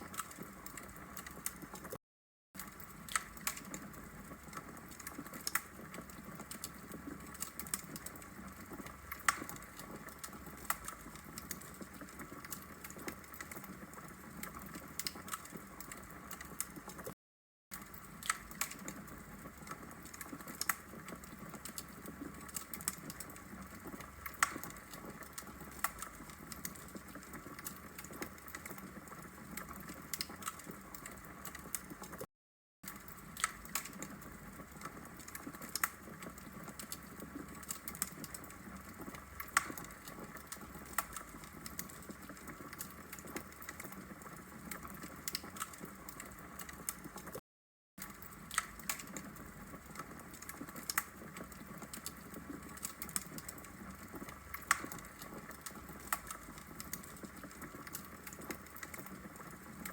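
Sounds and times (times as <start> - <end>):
burning wood crackling and popping: 0.0 - 2.0, 2.6 - 47.4, 48.0 - 59.9.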